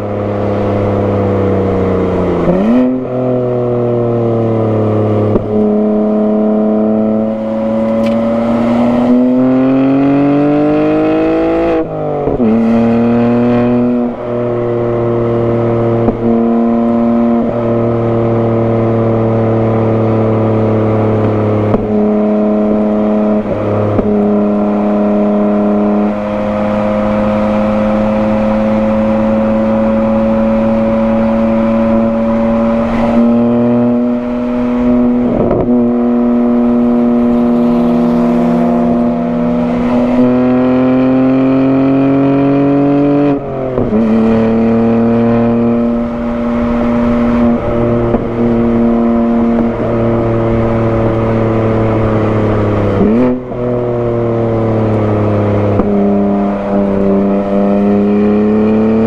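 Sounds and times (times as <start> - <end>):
car engine revving under load: 0.0 - 59.0.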